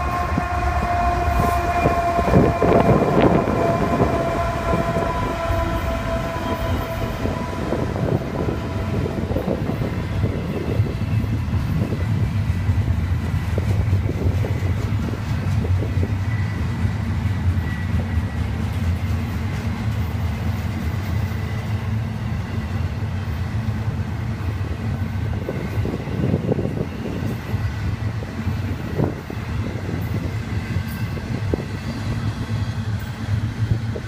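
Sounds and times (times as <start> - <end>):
rail cars clanking: 0.0 - 34.0
train wheels rumbling on track: 0.0 - 34.0.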